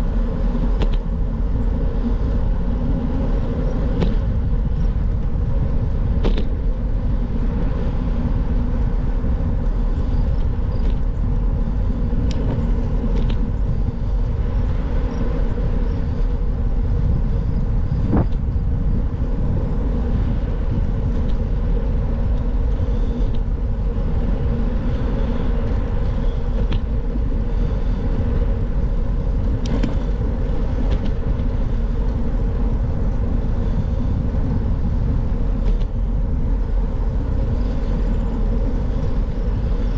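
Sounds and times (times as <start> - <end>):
bicycle tyres rolling: 0.0 - 39.9
wind rumble on microphone: 0.0 - 39.9.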